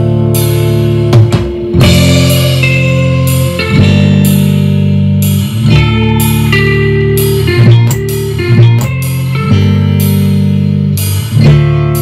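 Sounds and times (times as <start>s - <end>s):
guitar music through speakers: 0.0s - 12.0s.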